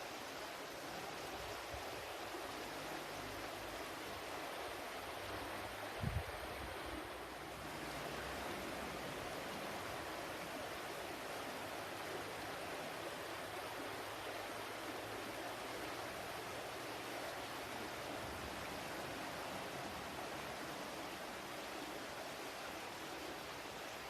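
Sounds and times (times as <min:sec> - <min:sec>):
flowing water rushing: 0:00.0 - 0:24.0.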